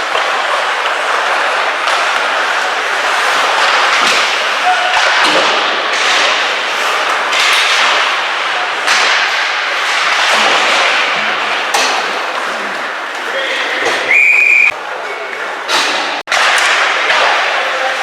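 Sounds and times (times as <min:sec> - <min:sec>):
skate blades scraping on ice: 0:00.0 - 0:14.7
hockey stick and puck clacks: 0:00.0 - 0:14.8, 0:15.7 - 0:18.0.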